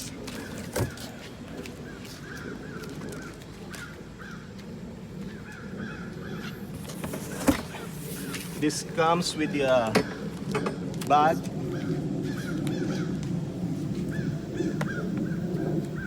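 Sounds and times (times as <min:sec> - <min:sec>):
birds calling: 0:00.0 - 0:04.6, 0:05.2 - 0:16.0.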